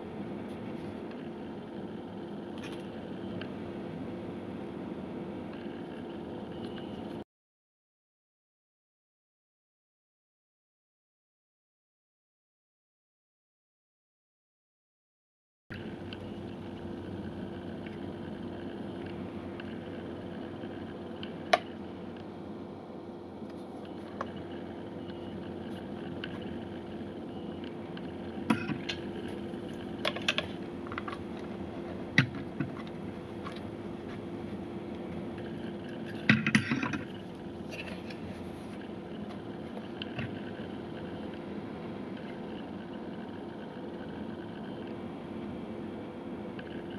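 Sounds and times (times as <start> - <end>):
low hum and hiss: 0.0 - 7.2, 15.7 - 46.9.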